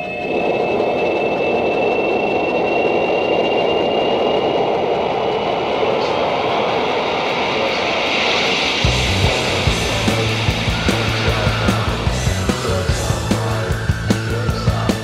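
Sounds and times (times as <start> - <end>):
rushing rumbling roar: 0.0 - 15.0
thin high whine rising: 0.0 - 15.0.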